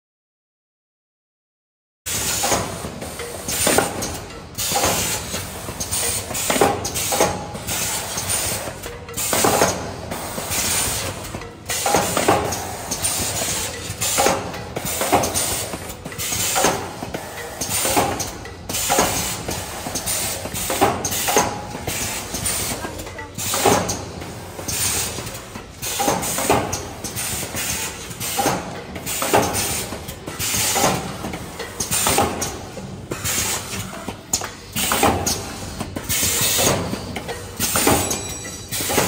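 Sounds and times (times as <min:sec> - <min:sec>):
machine air bursts and clatter: 0:02.1 - 0:39.0.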